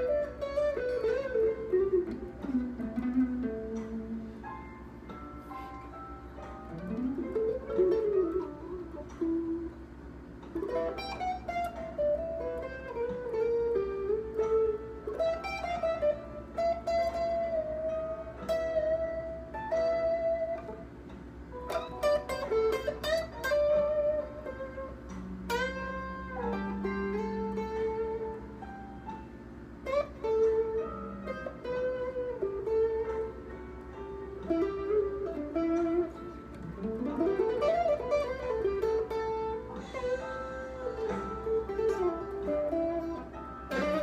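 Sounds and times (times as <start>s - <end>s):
electric guitar blues lead: 0.0s - 44.0s.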